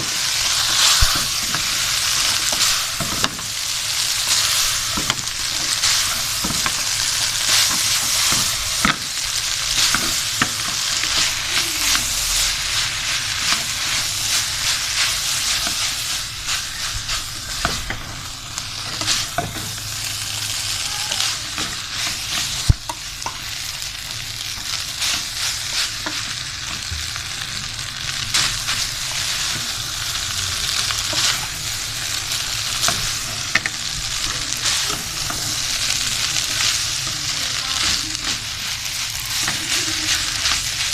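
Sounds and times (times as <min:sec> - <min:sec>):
noodles sizzling in hot oil: 0:00.0 - 0:40.9.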